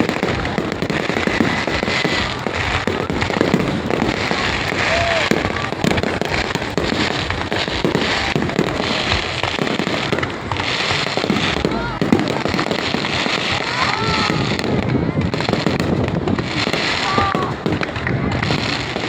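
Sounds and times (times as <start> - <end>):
faint voices: 0.0 - 19.0
fireworks bangs and crackles: 0.0 - 19.0.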